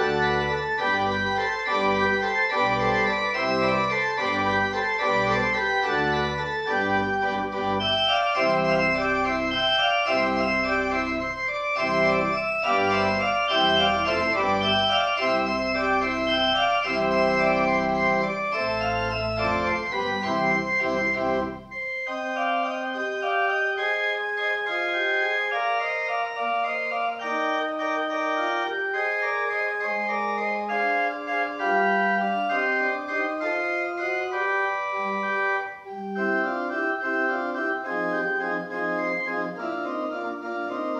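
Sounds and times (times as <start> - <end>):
deep organ pedal bass: 0.0 - 40.9
pipe organ chords: 0.0 - 40.9.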